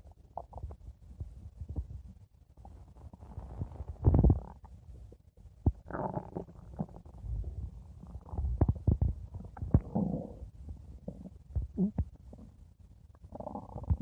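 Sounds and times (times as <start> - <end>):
stomach growling: 0.0 - 0.9, 2.6 - 4.8, 5.6 - 14.0.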